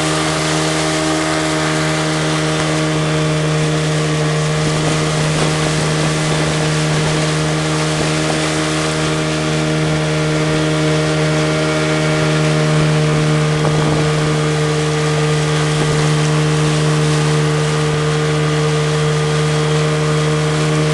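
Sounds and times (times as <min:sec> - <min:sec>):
boat engine running: 0:00.0 - 0:20.9.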